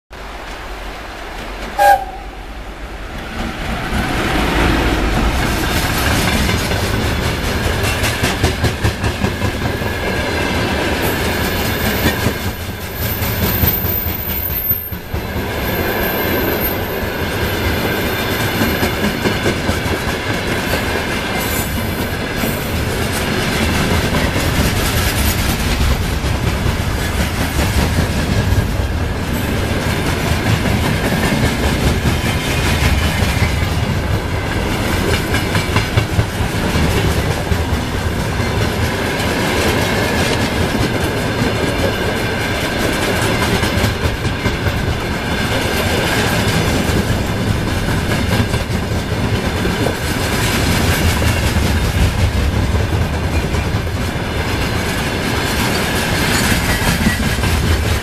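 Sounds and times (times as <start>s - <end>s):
electric locomotive passing: 0.2s - 58.0s
train wheels clacking over rail joints: 3.2s - 58.0s.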